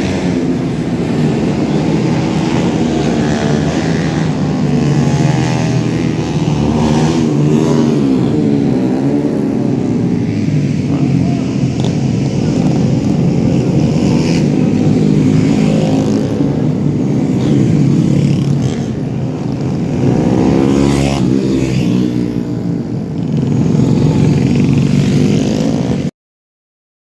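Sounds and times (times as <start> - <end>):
racing motorcycles revving: 0.0 - 26.1.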